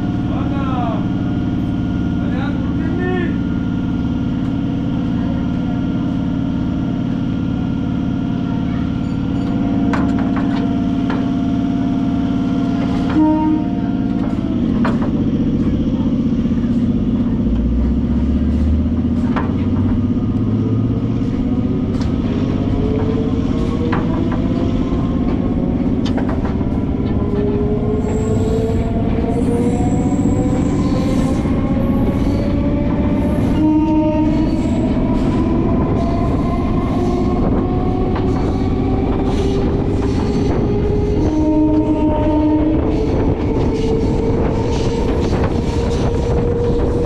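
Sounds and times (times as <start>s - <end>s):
train running rumble: 0.0s - 47.0s.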